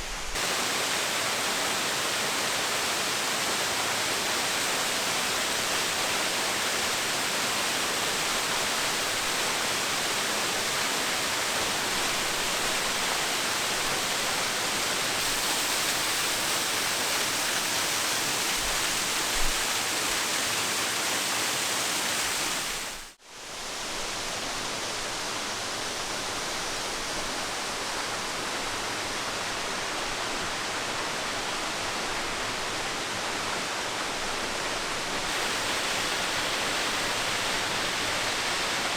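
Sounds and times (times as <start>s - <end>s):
waterfall rushing: 0.0s - 23.2s, 27.8s - 38.9s.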